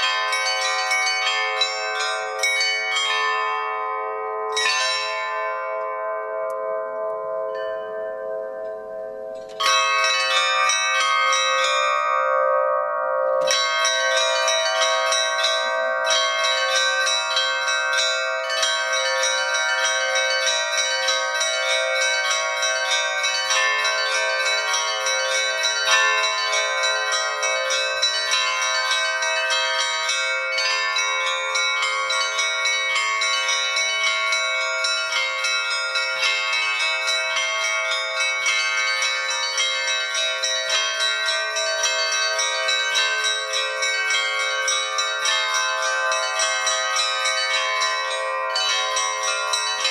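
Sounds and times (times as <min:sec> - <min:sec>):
large church bells ringing: 0:00.0 - 0:49.9
low church bell: 0:00.0 - 0:49.9
small high church bells: 0:00.0 - 0:49.9.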